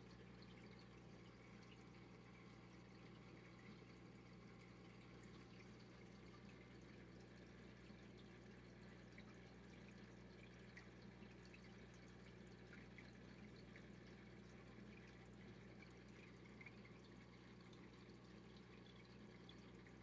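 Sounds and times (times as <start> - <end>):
aquarium hum: 0.0 - 20.0
water dripping and trickling: 0.0 - 20.0.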